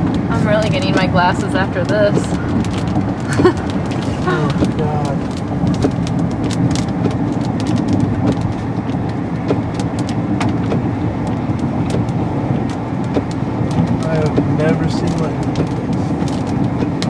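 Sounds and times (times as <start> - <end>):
raindrops ticking on windshield: 0.0 - 17.0
tyre and engine rumble: 0.0 - 17.0.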